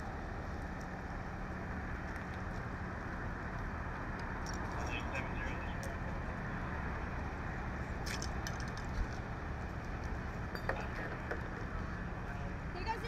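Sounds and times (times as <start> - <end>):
freeway traffic noise: 0.0 - 13.0.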